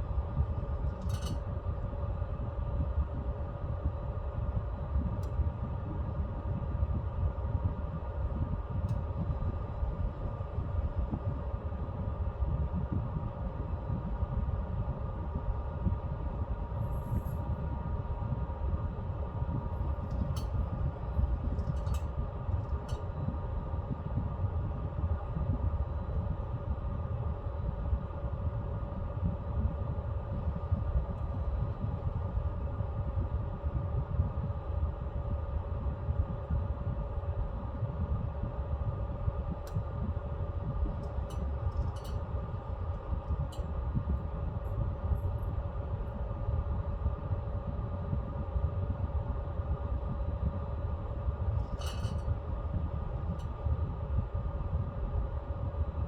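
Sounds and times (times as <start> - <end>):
fan hum: 0.0 - 56.0
stove fire rumbling: 0.0 - 56.0.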